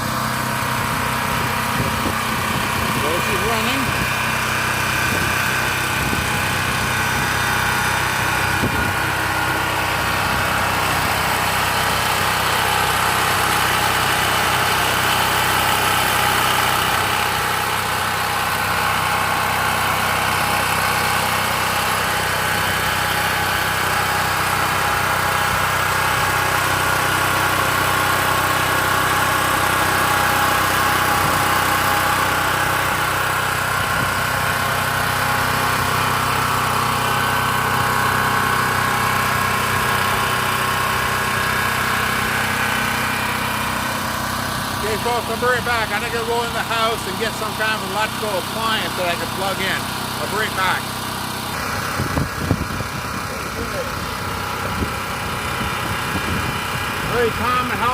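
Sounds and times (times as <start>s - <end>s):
generator engine running: 0.0s - 57.9s.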